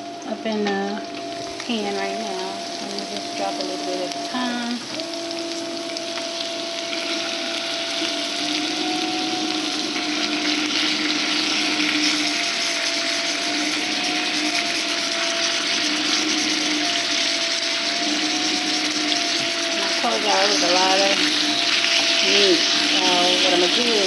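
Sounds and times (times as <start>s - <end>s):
dishwasher pump humming: 0.0s - 24.0s
steak sizzling in skillet: 1.0s - 24.0s
dishwasher spraying water: 1.4s - 24.0s.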